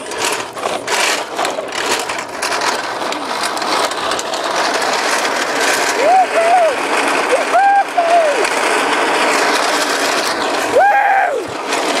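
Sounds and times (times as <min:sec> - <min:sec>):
plastic wheels rattling on asphalt: 0:00.0 - 0:12.0.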